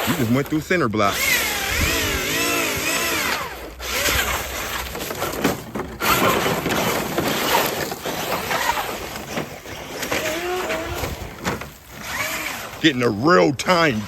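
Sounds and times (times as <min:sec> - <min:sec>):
tyres on rough ground: 0:00.0 - 0:14.0
electric motor whining: 0:01.0 - 0:13.0.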